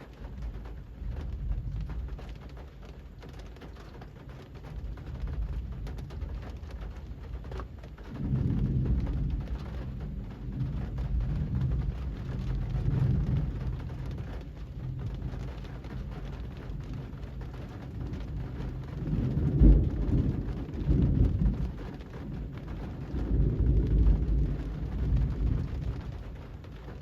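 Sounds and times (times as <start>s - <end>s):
rain falling on street: 0.0s - 27.0s
deep low rumble: 4.9s - 27.0s.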